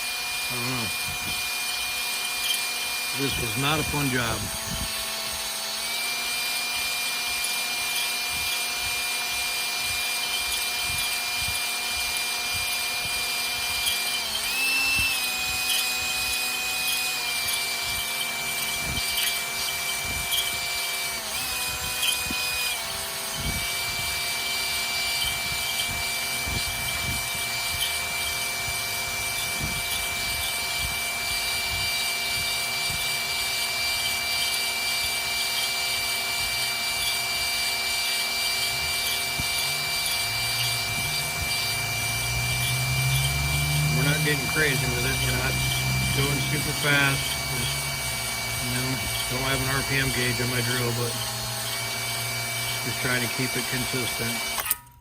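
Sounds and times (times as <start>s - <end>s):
electric drill motor whine: 0.0s - 55.0s
hone grinding on metal bore: 0.0s - 55.0s.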